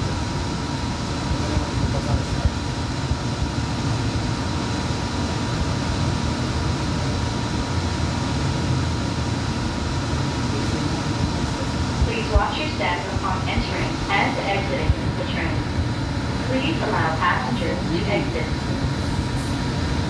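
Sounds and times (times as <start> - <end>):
rumble of train wheels on track: 0.0 - 20.0
thin steady whine: 0.0 - 20.0.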